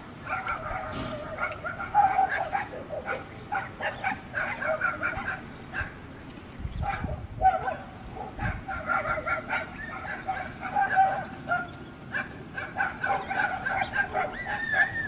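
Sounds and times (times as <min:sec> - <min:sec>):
dogs fighting: 0:00.2 - 0:06.2, 0:06.8 - 0:15.0.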